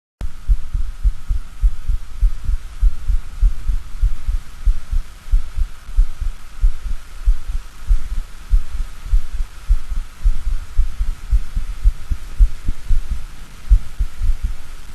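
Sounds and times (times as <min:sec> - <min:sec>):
heartbeat thumps: 0:00.2 - 0:14.7
faint steady hum: 0:00.2 - 0:14.9.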